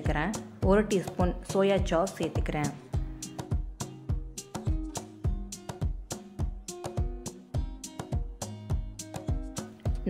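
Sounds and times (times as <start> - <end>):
plucked music over steady beat: 0.0 - 10.0.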